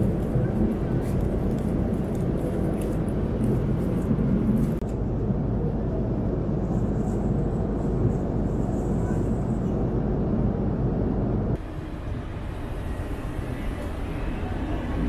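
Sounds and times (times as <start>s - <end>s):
airplane cabin engine noise: 0.0s - 15.0s.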